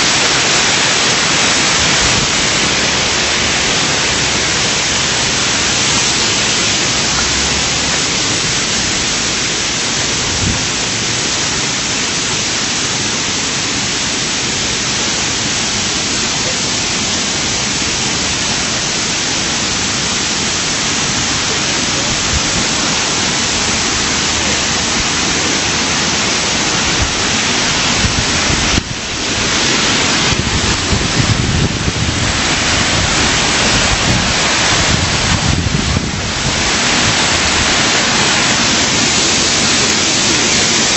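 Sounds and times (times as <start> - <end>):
water rushing over waterfall: 0.0 - 40.9.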